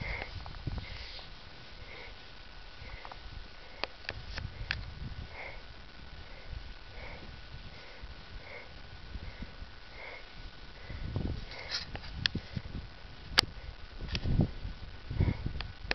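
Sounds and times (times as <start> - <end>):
person breathing hard: 0.0 - 12.8, 15.1 - 15.6
wind rumble on microphone: 0.0 - 15.9.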